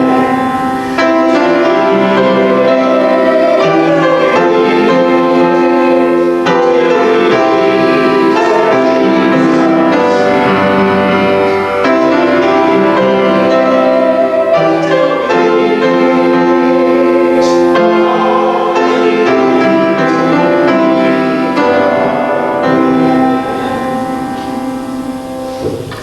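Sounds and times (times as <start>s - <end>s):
keyboard playing church chords: 0.0s - 26.0s.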